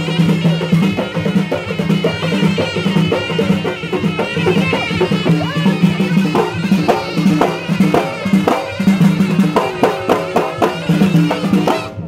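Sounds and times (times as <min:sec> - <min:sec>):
driving drumbeat: 0:00.0 - 0:12.0
shrill reed pipe melody: 0:00.0 - 0:12.0.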